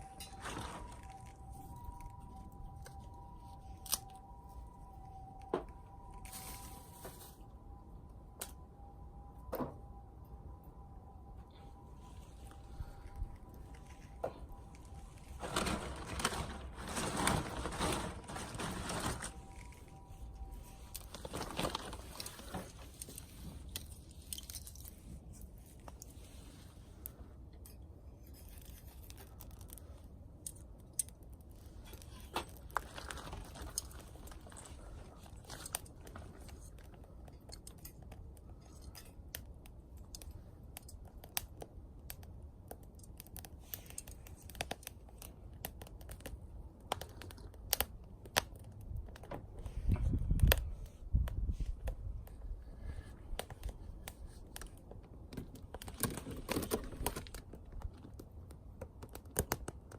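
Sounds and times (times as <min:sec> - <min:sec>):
wood fire crackling in stove: 0:00.0 - 0:08.8, 0:10.6 - 0:59.9.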